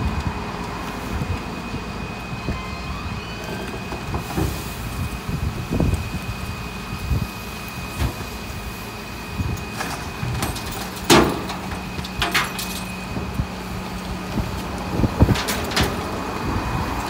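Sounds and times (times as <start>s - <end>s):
garbage truck idling: 0.0s - 17.0s.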